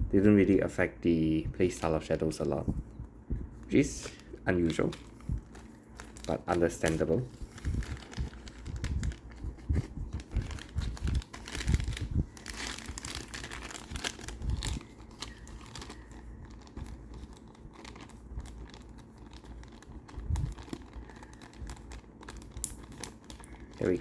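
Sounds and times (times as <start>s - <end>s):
plastic packaging crinkling: 3.6s - 24.0s.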